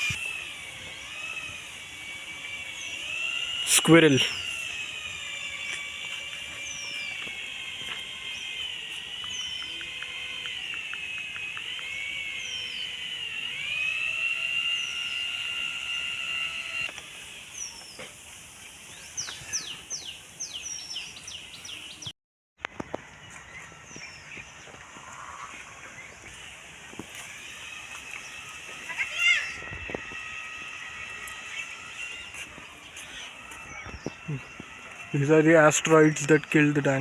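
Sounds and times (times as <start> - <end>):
steady wavering whine: 0.0 - 37.0.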